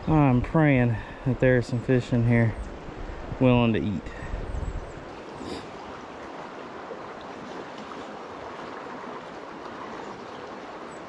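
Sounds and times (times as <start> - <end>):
fast-flowing creek water: 0.0 - 11.0.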